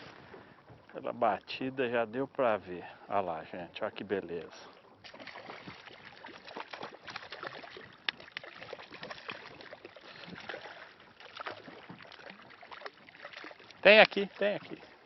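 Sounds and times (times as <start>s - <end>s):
water splashing against boat: 0.0s - 15.0s.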